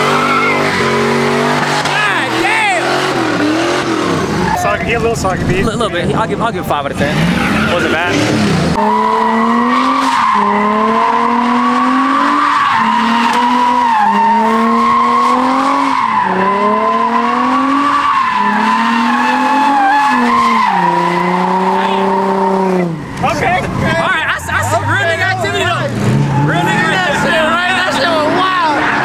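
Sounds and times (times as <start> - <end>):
high tire squeal: 0.0 - 4.9, 7.1 - 29.0
car engine revving high: 0.0 - 5.7, 6.8 - 29.0.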